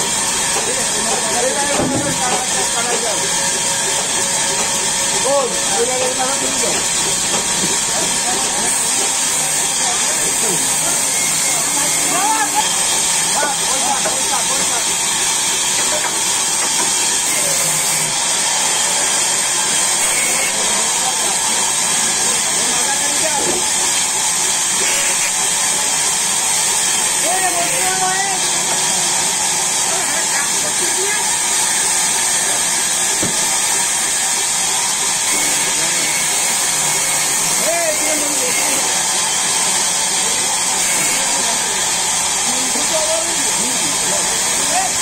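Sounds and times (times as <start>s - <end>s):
sawmill machinery hissing: 0.0s - 45.0s.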